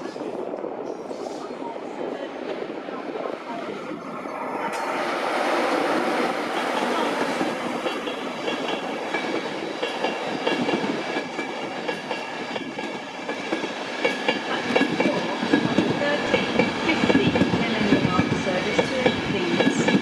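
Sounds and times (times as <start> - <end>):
electric locomotive whine: 0.0 - 20.0.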